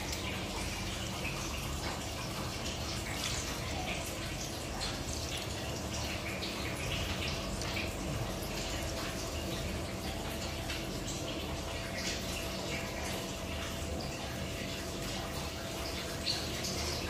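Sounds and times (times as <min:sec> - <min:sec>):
faint steady hum: 0:00.0 - 0:17.0
wet curd splashing and squelching: 0:00.0 - 0:17.0.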